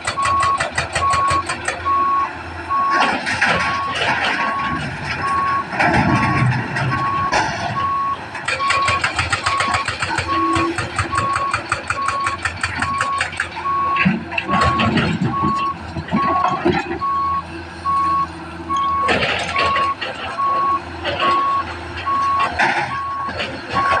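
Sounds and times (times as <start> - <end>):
backup alarm beeping: 0.0 - 24.0
diesel engine running: 0.0 - 24.0.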